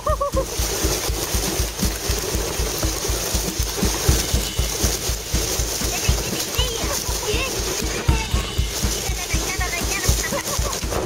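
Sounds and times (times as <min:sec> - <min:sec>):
rapid low thumps: 0:00.0 - 0:11.0
rushing water from a boat: 0:00.0 - 0:11.0.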